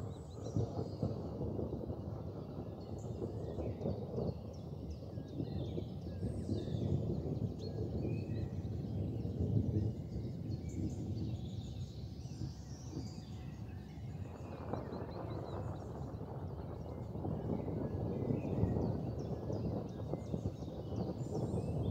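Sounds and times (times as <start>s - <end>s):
small birds chirping faintly: 0.0s - 21.9s.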